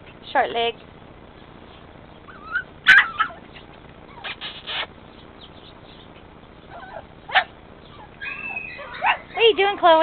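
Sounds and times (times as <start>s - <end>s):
puppies yipping and squealing: 1.7s - 10.0s.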